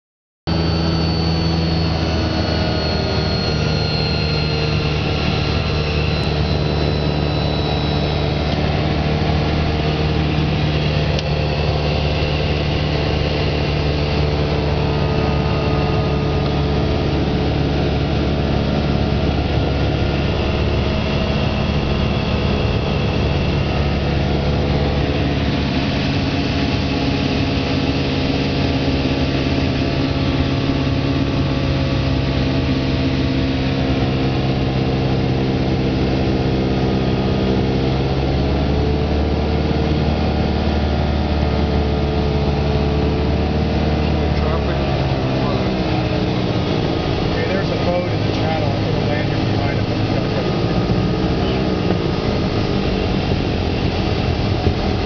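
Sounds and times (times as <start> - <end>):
seaplane engine and propeller drone: 0.5 - 55.0.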